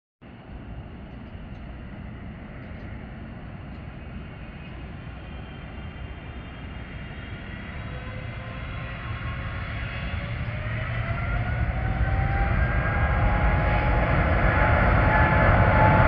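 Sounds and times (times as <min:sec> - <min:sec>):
distant jet engines rumbling: 0:00.3 - 0:16.0.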